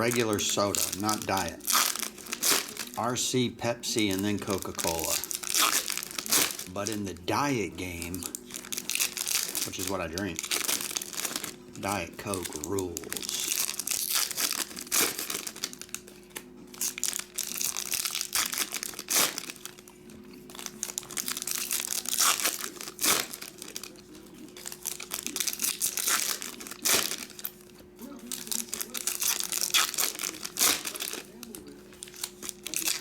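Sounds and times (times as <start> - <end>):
foil wrapper crinkling: 0.0 - 33.0.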